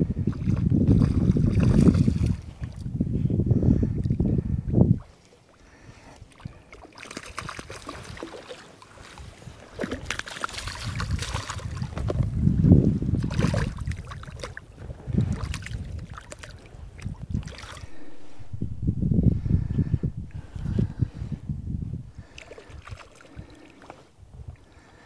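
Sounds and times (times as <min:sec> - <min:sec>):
wind gusts on microphone: 0:00.0 - 0:08.4, 0:09.0 - 0:25.0
water splashing and sloshing: 0:00.0 - 0:21.4, 0:22.1 - 0:25.0.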